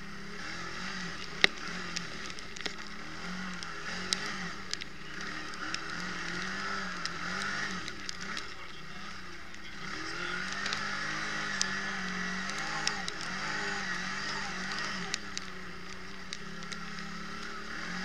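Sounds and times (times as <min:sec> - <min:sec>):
quad bike engine revving: 0:00.0 - 0:18.0
sharp clicks and knocks: 0:00.6 - 0:18.0.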